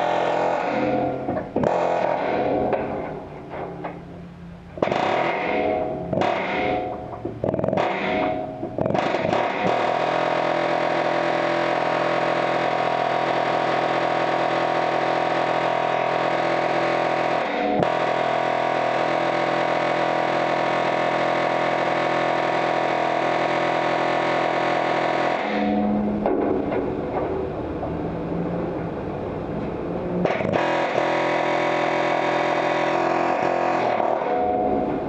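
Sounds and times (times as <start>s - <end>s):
pneumatic air hammer buzzing: 0.0s - 4.0s, 4.8s - 27.4s, 30.2s - 35.0s.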